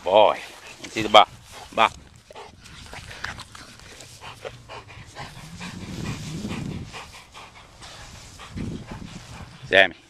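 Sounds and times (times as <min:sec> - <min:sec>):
dog sniffing and panting: 0:00.1 - 0:10.0.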